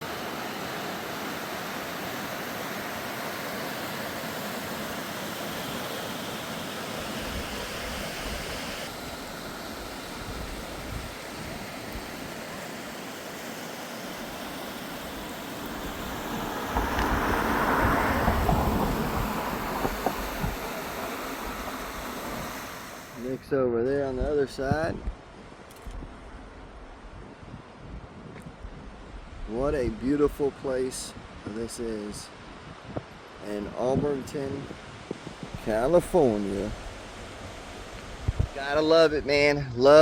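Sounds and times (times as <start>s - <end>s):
steady rushing noise: 0.0s - 23.4s, 28.5s - 40.0s.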